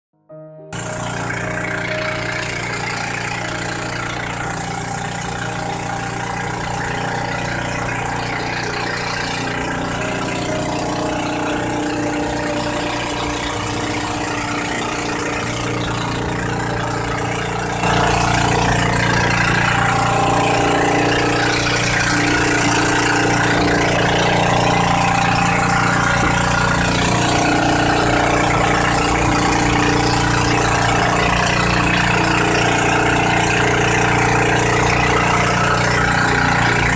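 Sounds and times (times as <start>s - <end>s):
boat engine running: 0.4s - 36.9s.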